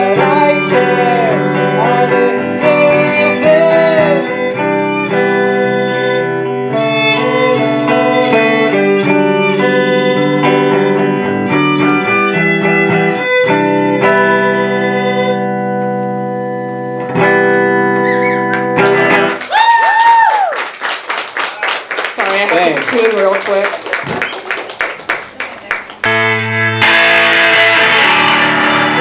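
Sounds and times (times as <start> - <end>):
live band playing guitars: 0.0 - 19.5, 25.2 - 29.0.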